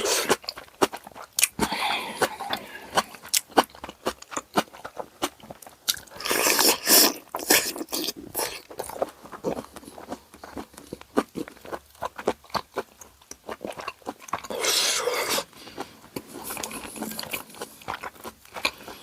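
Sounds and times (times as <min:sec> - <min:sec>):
chewing with wet mouth clicks: 0:00.1 - 0:19.0.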